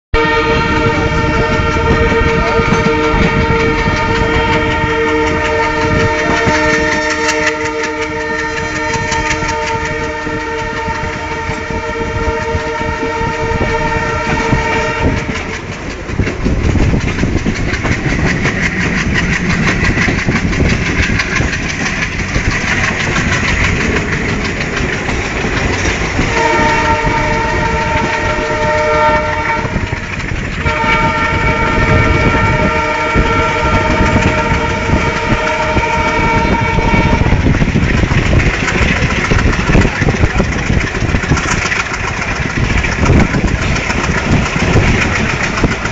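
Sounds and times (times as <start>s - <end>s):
train horn: 0.1s - 45.9s
train wheels clattering on rails: 0.5s - 45.9s.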